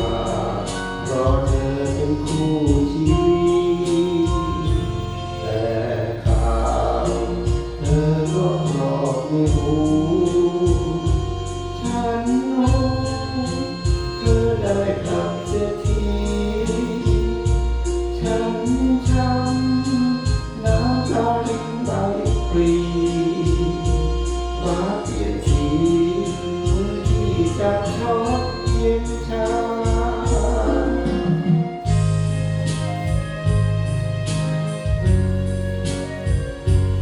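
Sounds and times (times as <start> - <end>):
instrumental pop music with beat: 0.0 - 37.0.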